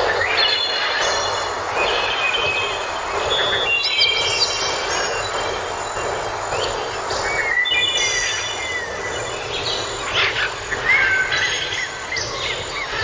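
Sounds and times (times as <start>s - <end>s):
birds chirping and whistling: 0.0s - 13.0s
steady rushing noise: 0.0s - 13.0s.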